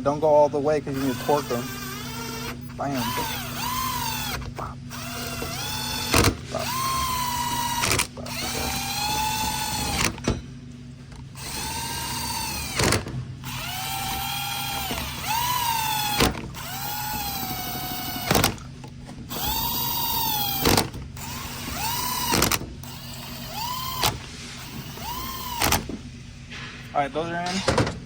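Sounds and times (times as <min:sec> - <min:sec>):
cordless drill spinning bolts: 0:00.9 - 0:10.3, 0:11.2 - 0:18.6, 0:19.3 - 0:26.0.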